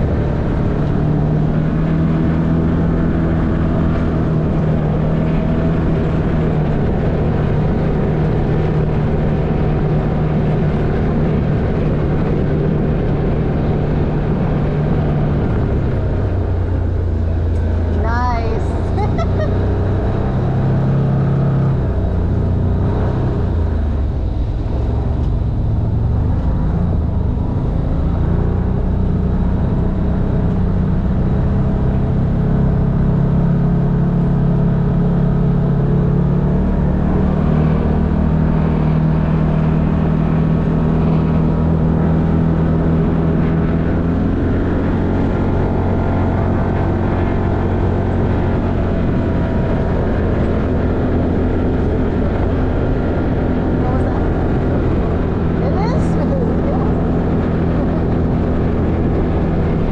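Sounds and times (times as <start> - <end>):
utility vehicle engine running: 0.0 - 59.9.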